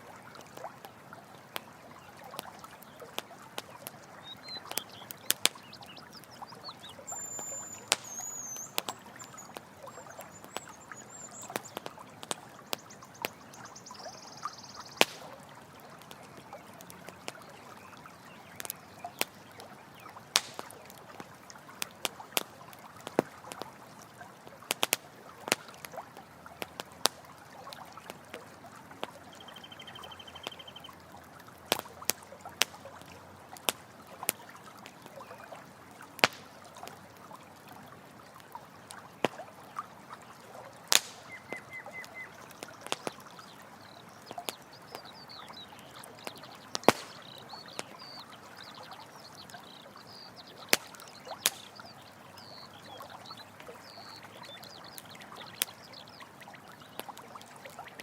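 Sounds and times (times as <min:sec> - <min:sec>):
campfire crackling and popping: 0:00.0 - 0:58.0
stream flowing: 0:00.0 - 0:58.0.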